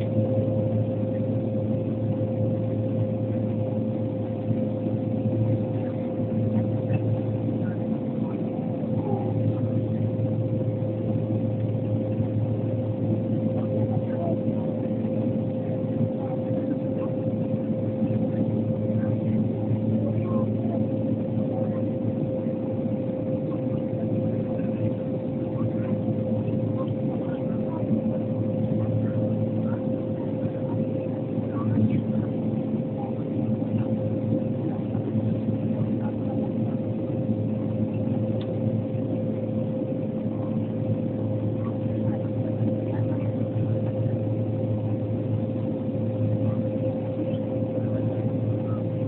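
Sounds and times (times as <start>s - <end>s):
turboprop engines droning: 0.0s - 49.0s.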